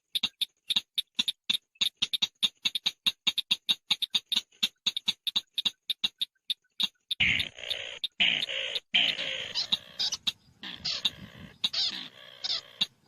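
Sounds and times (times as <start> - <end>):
shrike calling with sharp ticks: 0.0 - 13.0.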